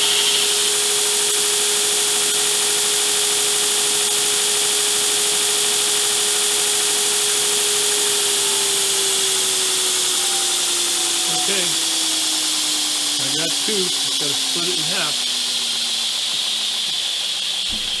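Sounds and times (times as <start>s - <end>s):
metal-cutting power tool hissing: 0.0s - 18.0s.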